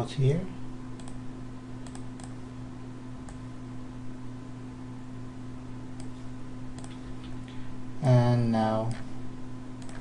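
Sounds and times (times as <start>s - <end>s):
electrical hum and hiss: 0.0s - 10.0s.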